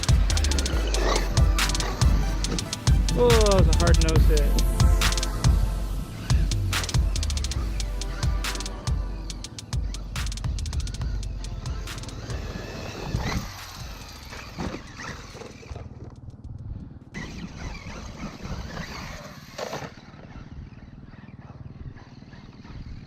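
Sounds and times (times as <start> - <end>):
rc truck motor whining: 0.0 - 23.0.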